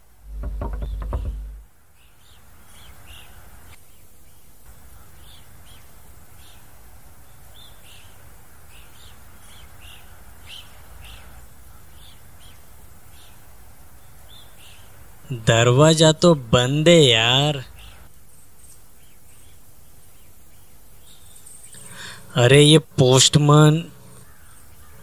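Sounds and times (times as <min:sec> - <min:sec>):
outdoor background hiss: 0:00.0 - 0:25.0
small birds chirping: 0:00.0 - 0:25.0.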